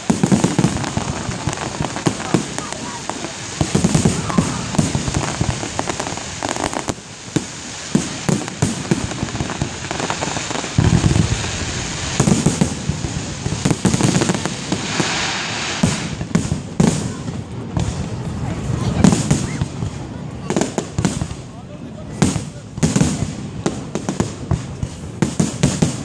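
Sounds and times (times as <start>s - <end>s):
fireworks bangs and crackling: 0.0s - 26.0s
heavy firework booms: 0.0s - 26.0s.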